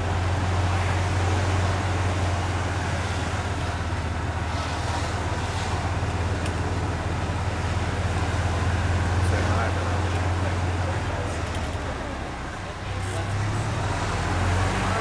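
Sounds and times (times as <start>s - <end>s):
golf cart motor hum: 0.0s - 15.0s.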